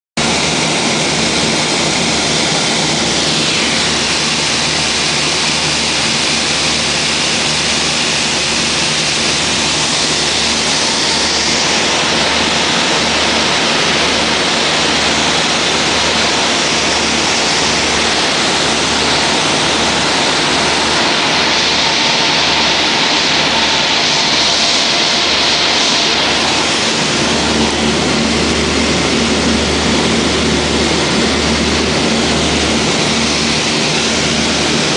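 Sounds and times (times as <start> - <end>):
propeller plane engines droning: 0.2 - 34.9.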